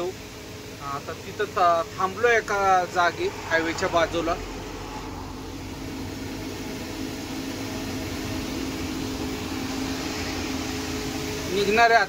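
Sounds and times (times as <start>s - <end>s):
diesel truck engine drone: 0.0s - 12.0s
road and wind noise: 1.7s - 11.9s.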